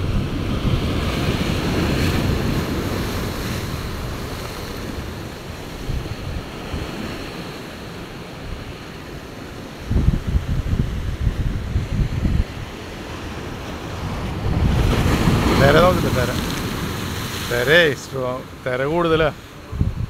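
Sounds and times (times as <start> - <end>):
wind rumbling on microphone: 0.0 - 17.8, 19.5 - 20.0
surf breaking over rocks: 0.0 - 20.0.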